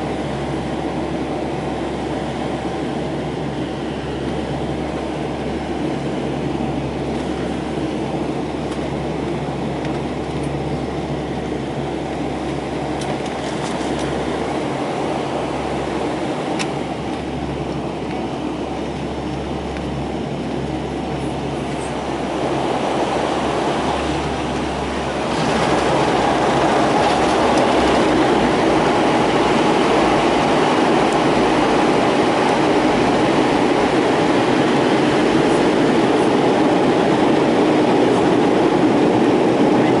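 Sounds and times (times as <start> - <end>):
airplane engine and propeller noise: 0.0 - 40.0
wheels rumbling on runway: 0.0 - 40.0.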